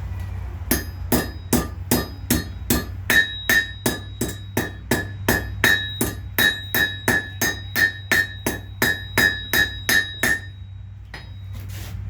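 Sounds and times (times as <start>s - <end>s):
hammer striking iron on anvil: 0.7s - 11.5s.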